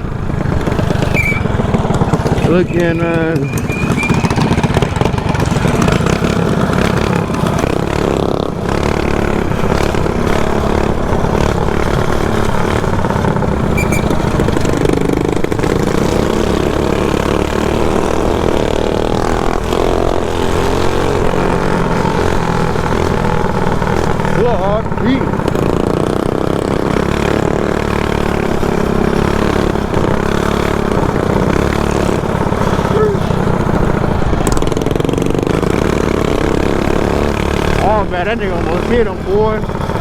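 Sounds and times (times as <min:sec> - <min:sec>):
mini bike engines running: 0:00.0 - 0:40.0.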